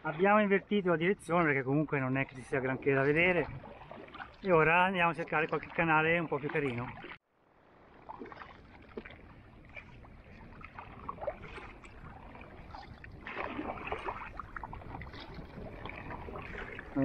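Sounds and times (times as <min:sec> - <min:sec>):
rushing water: 0:00.0 - 0:17.0
wind: 0:00.0 - 0:17.0
paddle strokes splashing water: 0:01.9 - 0:17.0.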